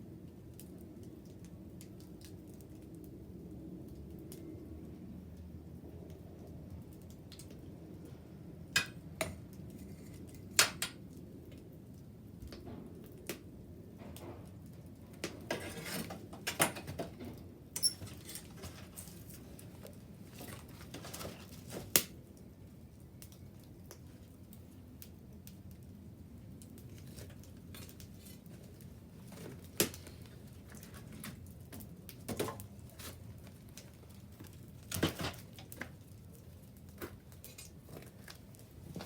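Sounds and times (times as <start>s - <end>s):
bonfire crackling and popping: 0.0s - 39.0s.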